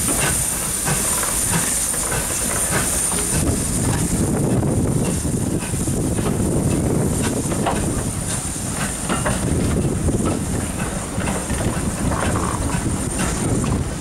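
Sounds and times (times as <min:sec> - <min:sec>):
steam hiss: 0:00.0 - 0:14.0
train coaches rumbling past: 0:00.0 - 0:14.0
wheels clicking over rail joints: 0:00.0 - 0:14.0.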